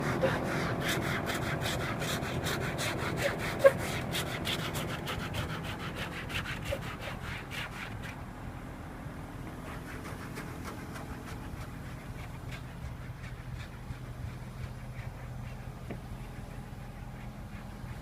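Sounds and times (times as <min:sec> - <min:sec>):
scraper scraping ice off car: 0:00.0 - 0:08.2, 0:09.5 - 0:18.0.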